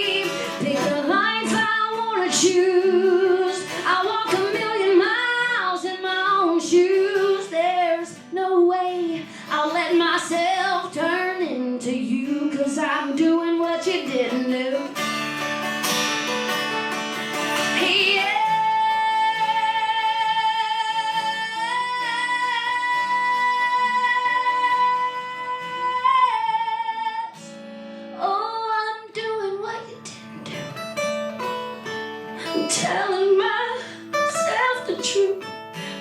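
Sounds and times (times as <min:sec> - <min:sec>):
woman singing: 0:00.0 - 0:15.0, 0:17.5 - 0:30.8, 0:32.4 - 0:36.0
acoustic guitar: 0:00.0 - 0:36.0.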